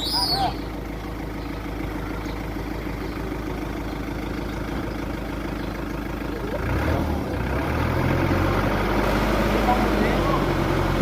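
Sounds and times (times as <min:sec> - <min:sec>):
heavy diesel engine chugging: 0:00.0 - 0:11.0.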